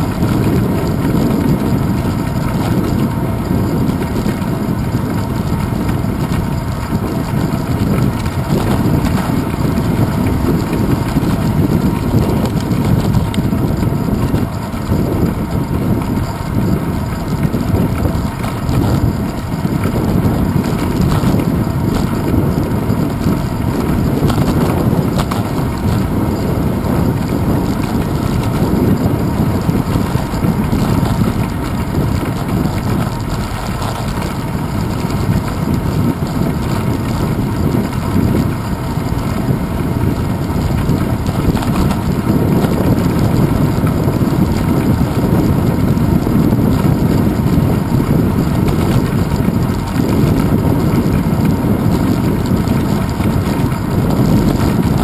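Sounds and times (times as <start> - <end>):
bicycle road rumble on pavers: 0.0 - 55.0
wind buffeting: 0.0 - 55.0.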